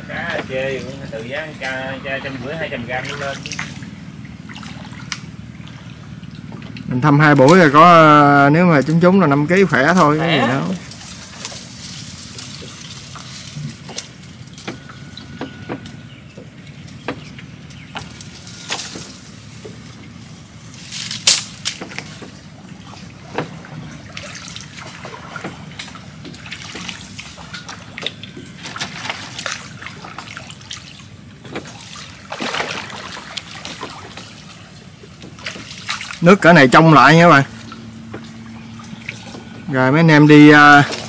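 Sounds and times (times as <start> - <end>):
low steady rumble: 0.0 - 41.0
water trickling and sloshing: 0.0 - 41.0
small splashes and knocks: 0.2 - 7.8, 10.7 - 39.7, 40.5 - 41.0.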